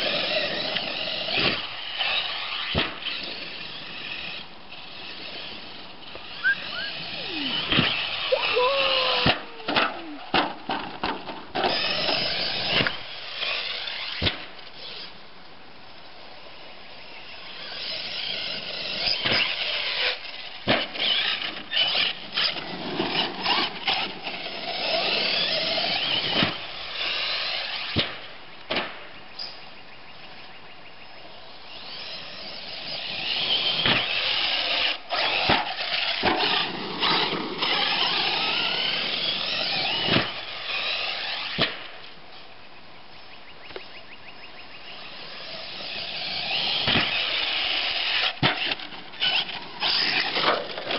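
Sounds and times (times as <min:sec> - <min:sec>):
toy truck motor whine: 0:00.0 - 0:10.4, 0:11.6 - 0:15.2, 0:17.0 - 0:28.0, 0:31.2 - 0:41.6, 0:44.8 - 0:50.9.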